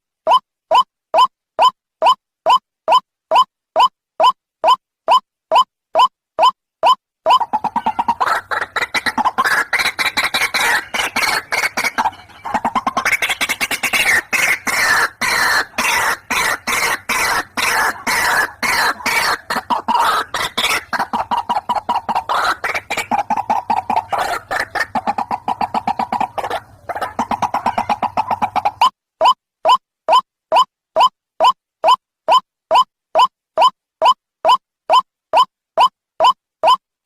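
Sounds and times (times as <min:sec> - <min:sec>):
bird calls harsh repeated notes: 0:00.2 - 0:36.8.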